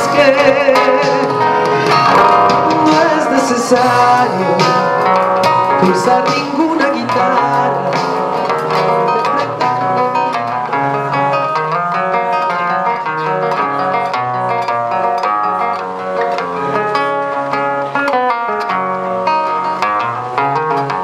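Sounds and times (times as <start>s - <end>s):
fingerstyle classical guitar: 0.0s - 21.0s.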